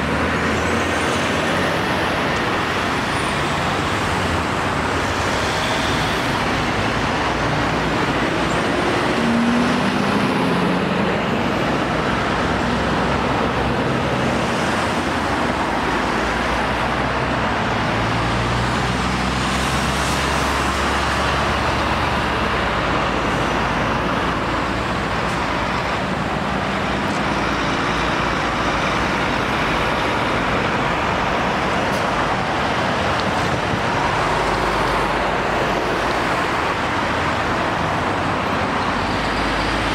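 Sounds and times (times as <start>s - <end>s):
heavy lorry engine drone: 0.0s - 39.9s
road traffic passing: 0.0s - 39.9s.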